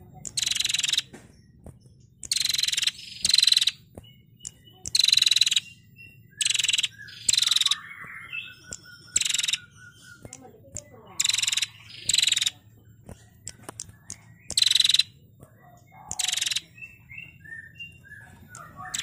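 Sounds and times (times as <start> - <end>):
faint low bird chirps: 0.0 - 19.0
bird rattling trill: 0.2 - 16.9, 18.5 - 19.0.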